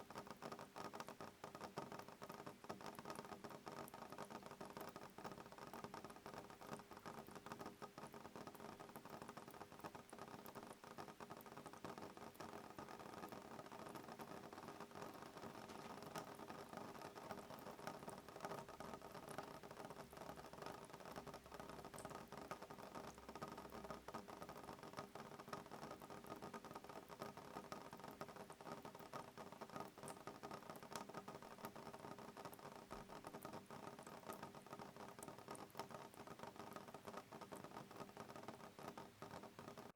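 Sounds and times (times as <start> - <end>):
soft rain on window glass: 0.0 - 39.9.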